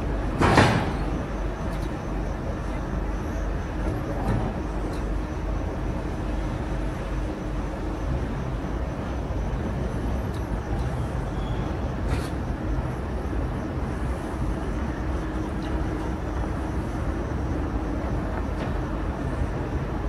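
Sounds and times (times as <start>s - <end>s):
train rumble and hum: 0.0s - 20.0s.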